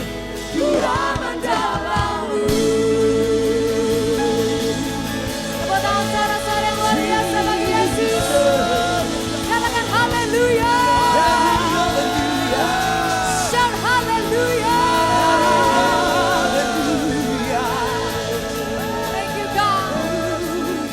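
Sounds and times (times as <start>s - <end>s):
worship band playing: 0.0s - 20.9s.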